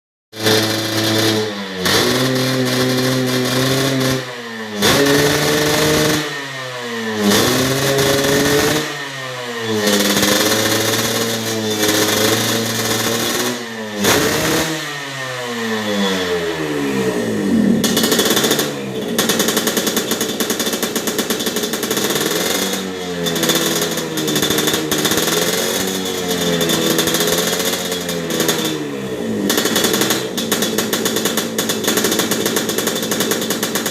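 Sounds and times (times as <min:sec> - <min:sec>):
two-stroke motorcycle engine revving: 0:00.3 - 0:33.9.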